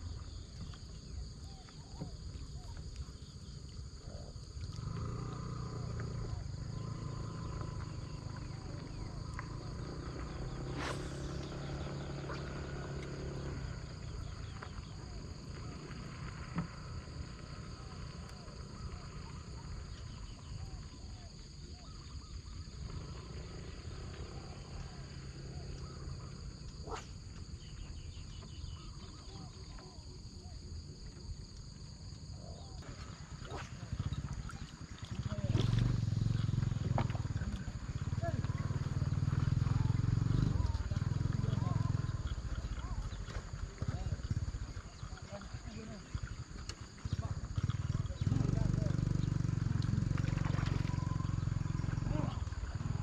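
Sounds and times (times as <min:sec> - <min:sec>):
insect chorus trilling: 0:00.0 - 0:53.0.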